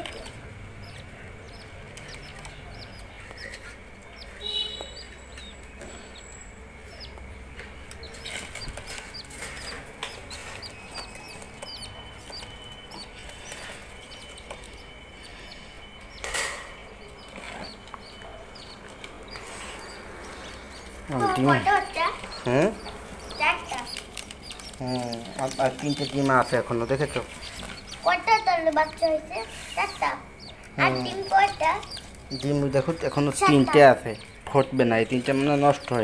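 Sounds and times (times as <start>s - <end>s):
birds scuffling: 0.0s - 36.0s
budgerigars chirping: 0.0s - 36.0s.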